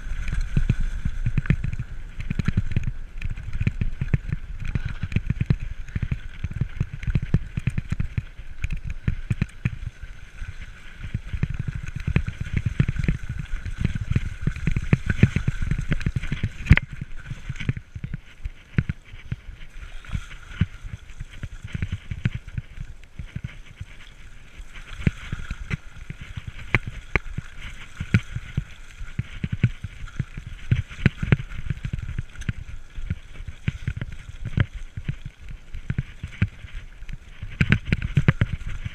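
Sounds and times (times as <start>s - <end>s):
bike rattling and bumping: 0.0s - 20.0s, 24.8s - 38.9s.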